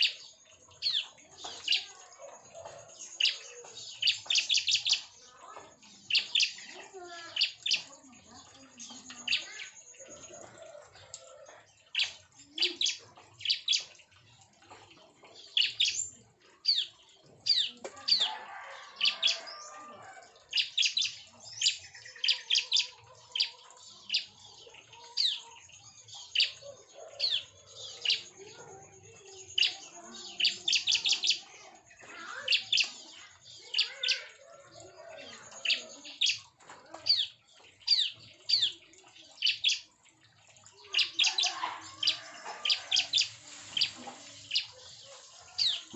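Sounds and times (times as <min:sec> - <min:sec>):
bird high chirps: 0:00.0 - 0:11.3, 0:15.3 - 0:45.9.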